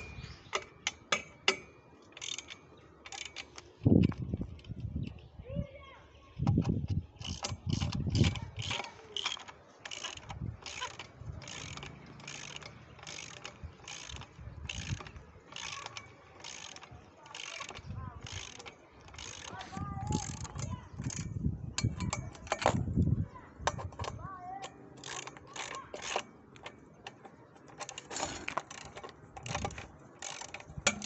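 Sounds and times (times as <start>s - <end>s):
hand tool rasping clicking strokes: 0.0s - 4.2s, 6.5s - 22.8s, 23.7s - 31.0s.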